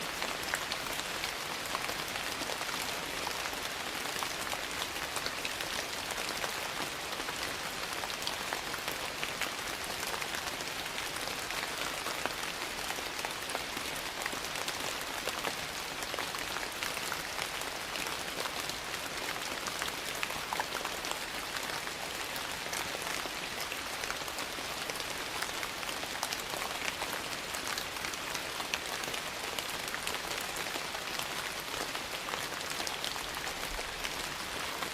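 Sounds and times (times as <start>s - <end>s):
steady rain on a surface: 0.0s - 34.9s.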